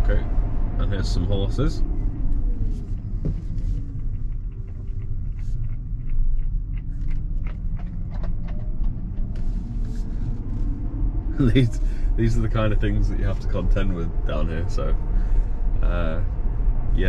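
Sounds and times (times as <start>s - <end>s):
faint gliding whine: 0.0s - 17.0s
road and tyre rumble: 0.0s - 17.0s.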